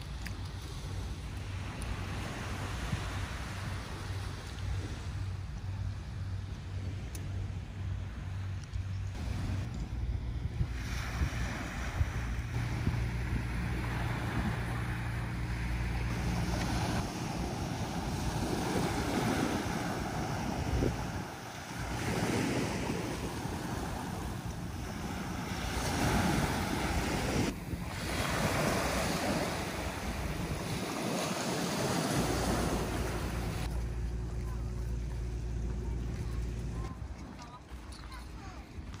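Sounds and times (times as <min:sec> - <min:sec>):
sea waves washing on shore: 0:00.0 - 0:39.0
wind rumbling on microphone: 0:00.0 - 0:39.0.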